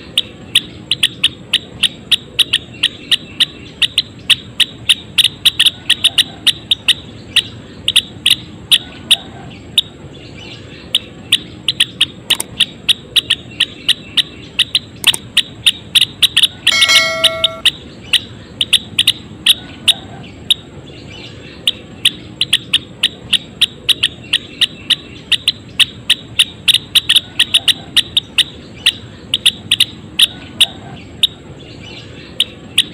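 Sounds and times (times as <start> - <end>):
drawn-out bird call: 0.0 - 32.9
songbird chipping: 0.0 - 32.9.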